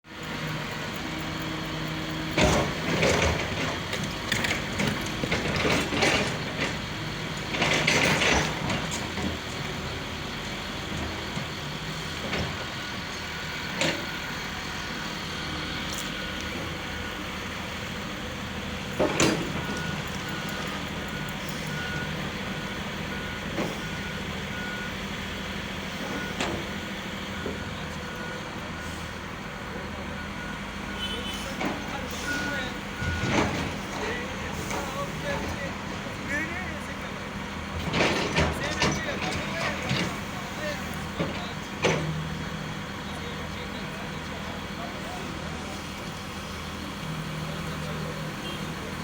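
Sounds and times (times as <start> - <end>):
heavy machinery running: 0.1 - 49.0
reversing alarm beeping: 2.0 - 42.5.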